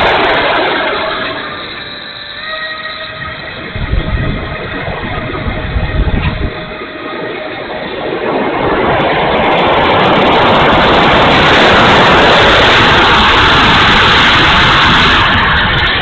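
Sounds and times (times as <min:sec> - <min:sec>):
electric ducted fans: 0:00.0 - 0:16.0
air rushing past: 0:03.2 - 0:16.0.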